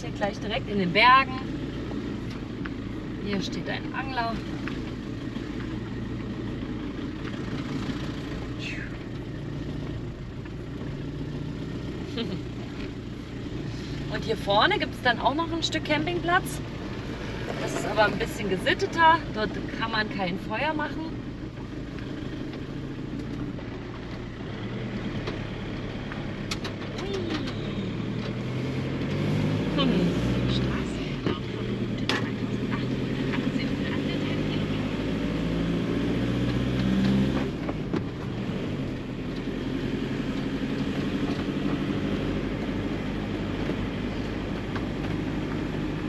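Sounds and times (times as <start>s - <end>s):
road noise: 0.0s - 46.0s
van engine running: 0.0s - 46.0s.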